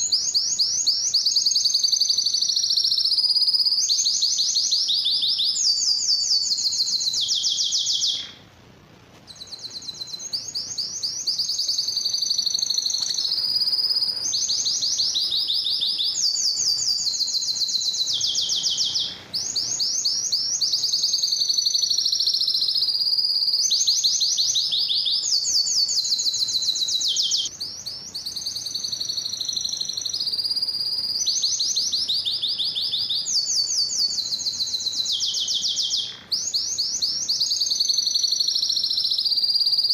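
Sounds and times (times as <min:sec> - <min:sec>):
canary singing trills: 0:00.0 - 0:08.5, 0:09.2 - 0:39.9.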